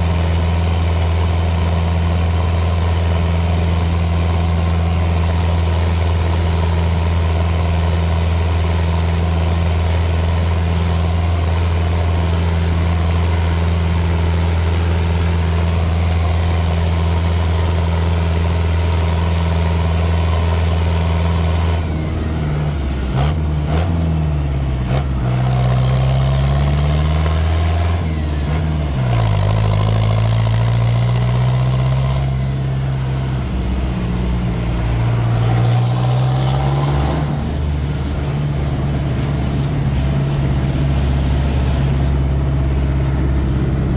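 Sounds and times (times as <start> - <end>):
tractor engine running and revving: 0.0 - 43.9.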